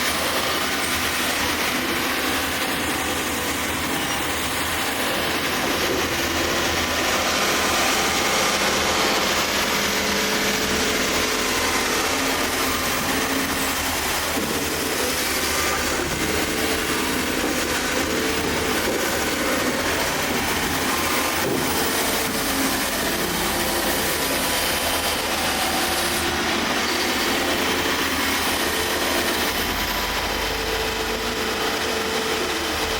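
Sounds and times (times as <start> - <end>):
excavator engine and hydraulics: 0.0 - 32.9.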